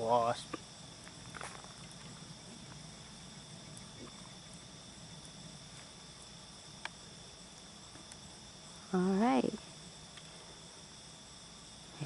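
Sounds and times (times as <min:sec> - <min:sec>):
high-pitched insect trilling: 0:00.0 - 0:12.0.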